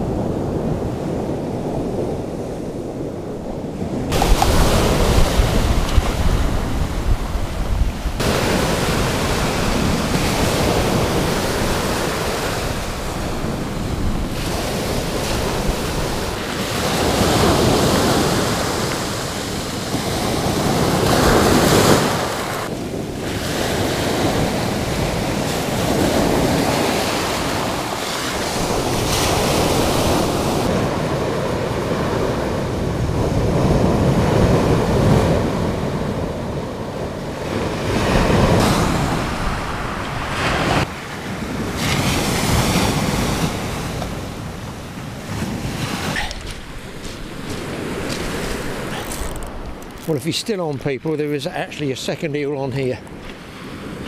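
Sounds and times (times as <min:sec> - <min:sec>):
wind buffeting microphone: 0:00.0 - 0:52.0
surf breaking on cobble beach: 0:00.0 - 0:54.0.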